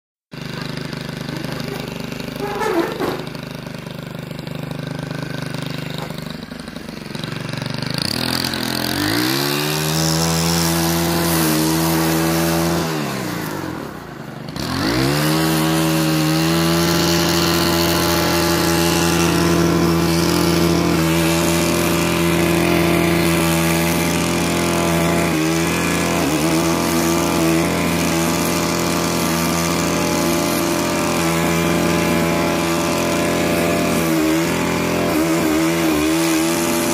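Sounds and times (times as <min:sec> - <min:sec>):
brush cutter engine revving: 0:00.3 - 0:36.9.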